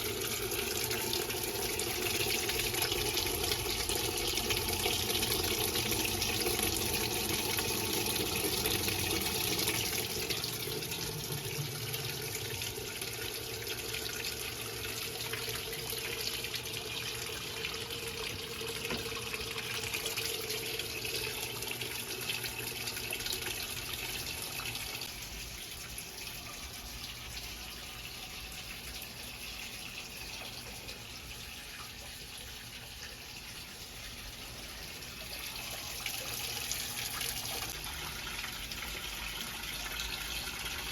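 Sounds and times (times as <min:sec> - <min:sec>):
water pouring into washing machine: 0:00.0 - 0:40.9.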